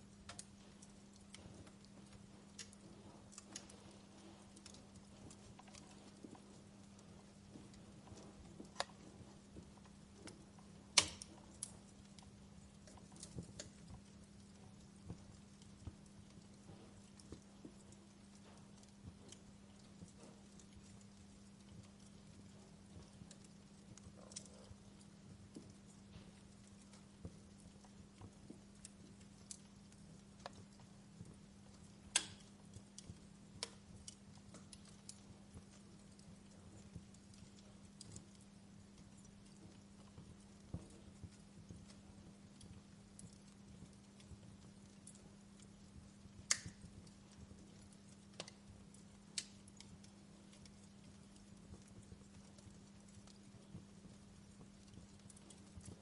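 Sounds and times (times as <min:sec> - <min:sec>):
faint low hum: 0:00.0 - 0:56.0
wood fire crackling and popping: 0:00.0 - 0:56.0.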